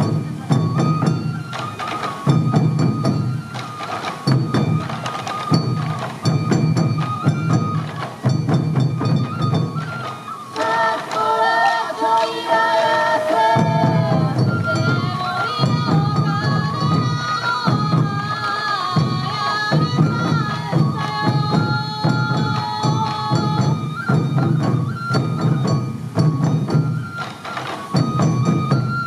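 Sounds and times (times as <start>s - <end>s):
taiko drums beating: 0.0s - 29.0s
transverse flute melody: 0.0s - 29.0s.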